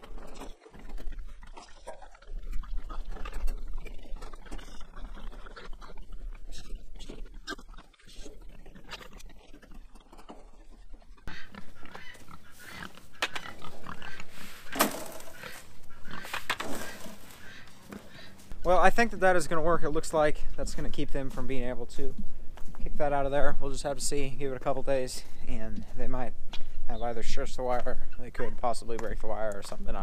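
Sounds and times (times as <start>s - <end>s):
pigs grunting: 0.0s - 25.9s.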